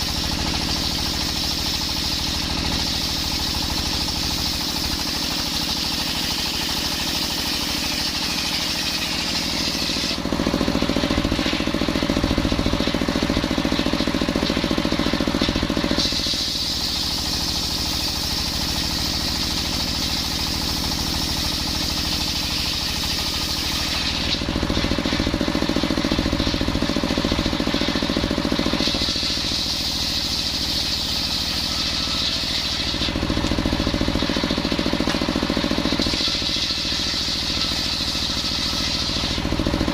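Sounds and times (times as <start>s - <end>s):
saw mill blade whining: 0.0s - 39.9s.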